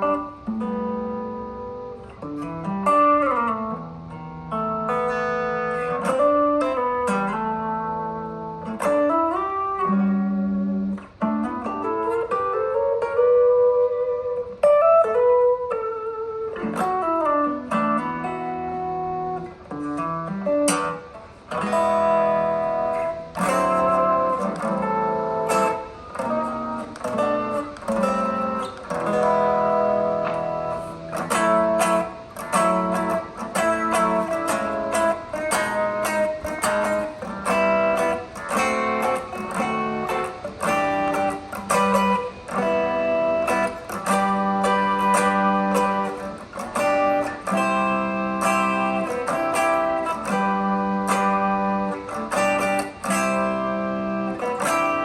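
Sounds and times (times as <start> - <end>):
clean electric guitar: 0.0 - 55.0.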